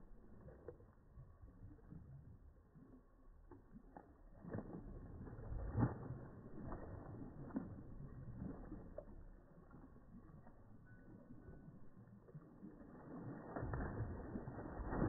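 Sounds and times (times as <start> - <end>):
dogs splashing through water: 0.0 - 15.0.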